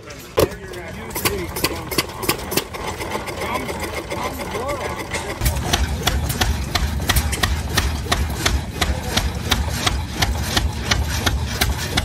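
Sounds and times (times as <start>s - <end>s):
drag saw engine running: 0.0s - 12.0s.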